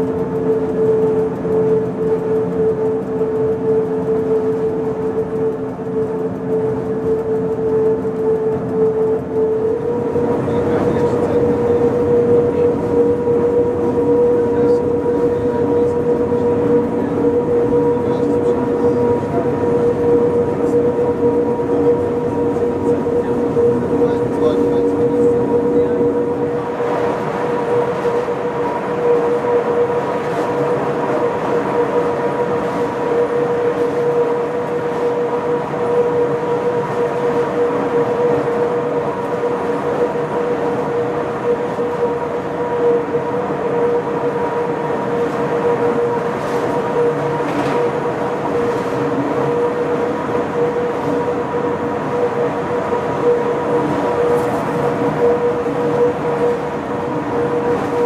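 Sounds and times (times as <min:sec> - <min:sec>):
electric railcar running with whine: 0:00.0 - 0:58.0.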